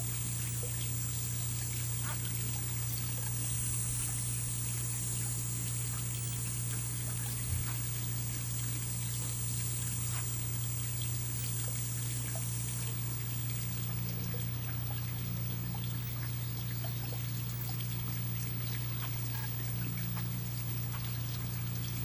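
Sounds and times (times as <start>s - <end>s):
trickle of running water: 0.0s - 22.0s.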